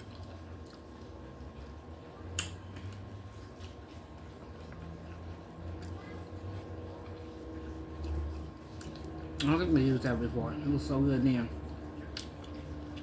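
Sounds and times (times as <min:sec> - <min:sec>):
person chewing with wet mouth sounds: 0:00.0 - 0:13.0.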